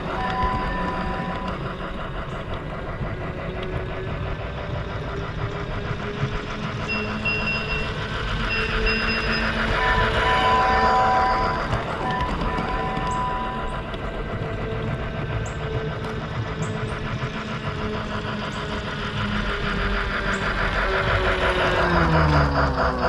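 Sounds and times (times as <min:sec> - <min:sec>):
toy train wheels clattering: 0:00.0 - 0:23.0
whining tones: 0:00.0 - 0:23.0.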